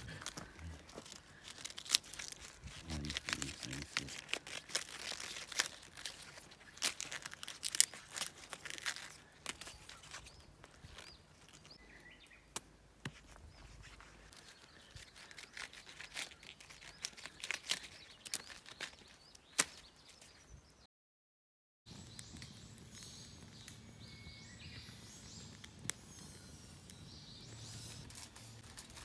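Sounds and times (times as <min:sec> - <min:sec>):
aluminium foil crinkling: 0:00.0 - 0:11.8, 0:13.2 - 0:20.3, 0:22.0 - 0:29.0.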